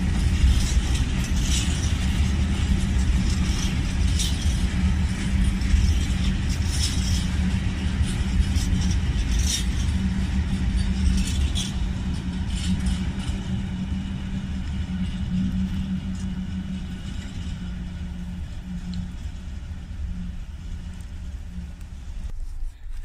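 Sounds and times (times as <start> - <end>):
freight train rumbling past: 0.0 - 22.4
wheels clicking over rail joints: 0.0 - 23.0.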